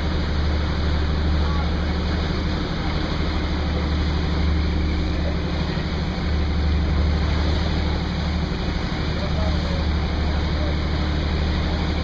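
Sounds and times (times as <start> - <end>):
boat engine droning: 0.0 - 12.0
water rushing past: 0.0 - 12.0.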